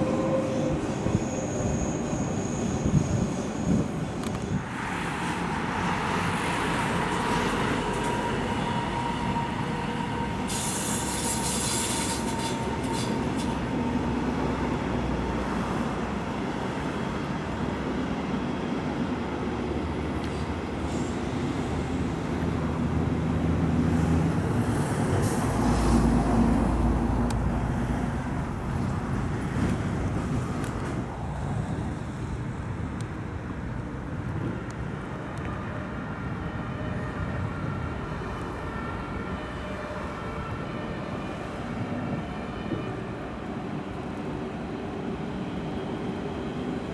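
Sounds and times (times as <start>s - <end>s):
train rolling rumble: 0.0s - 46.9s.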